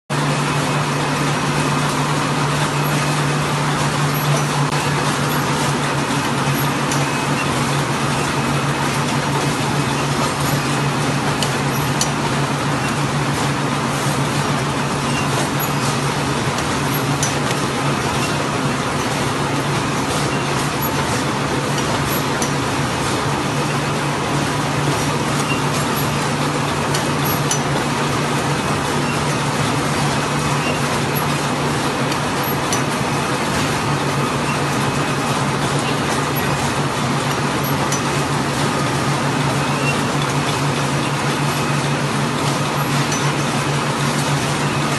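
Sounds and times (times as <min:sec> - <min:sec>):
machinery running: 0:00.1 - 0:44.9.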